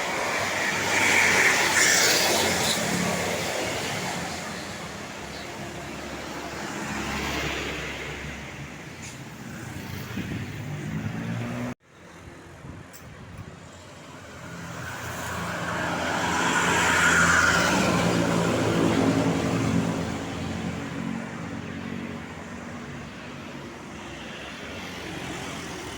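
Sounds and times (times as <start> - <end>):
road noise: 0.0 - 25.9.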